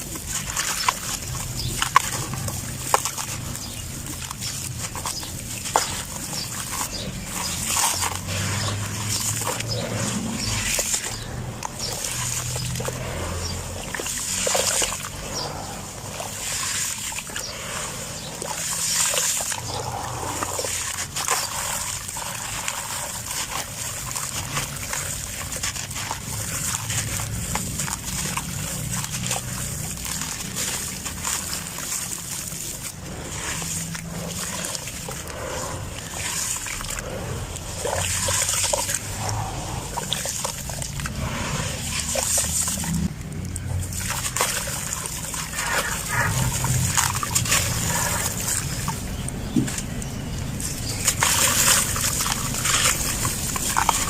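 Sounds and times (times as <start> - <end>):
sand cement crumbling: 0.0 - 54.0
trickling grains: 0.0 - 54.0.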